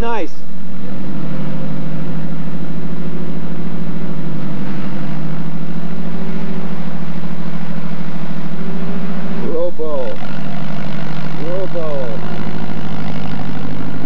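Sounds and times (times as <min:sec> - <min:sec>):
large engine droning: 0:00.3 - 0:14.0.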